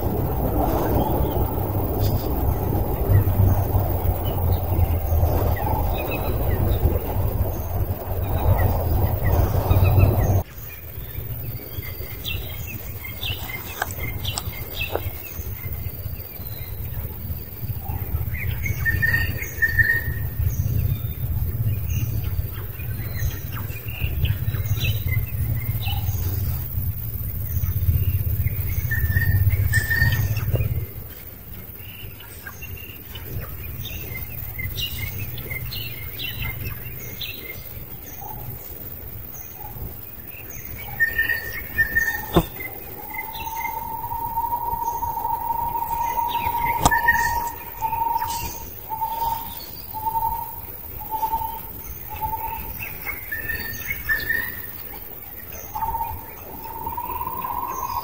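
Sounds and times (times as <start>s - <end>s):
low steady rumble: 0.0s - 58.0s
birds chirping and calling: 0.1s - 58.0s.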